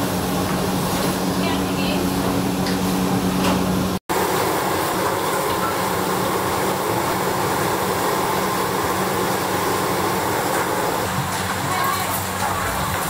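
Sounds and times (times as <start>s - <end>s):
electric fans running: 0.0s - 13.0s
gas burners: 0.0s - 13.0s.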